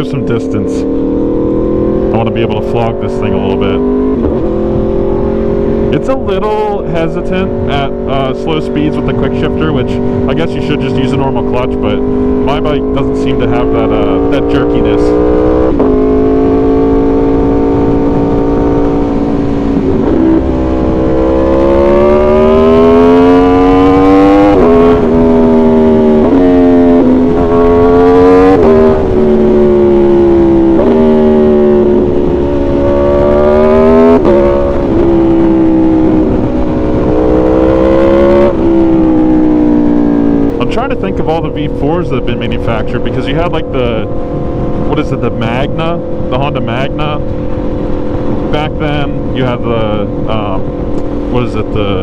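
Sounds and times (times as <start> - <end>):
motorcycle engine accelerating through gears: 0.0 - 52.0.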